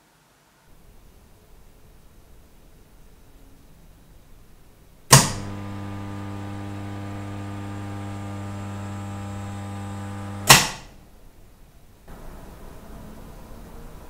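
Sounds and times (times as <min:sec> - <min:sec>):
steady mains hum: 0:00.7 - 0:14.0.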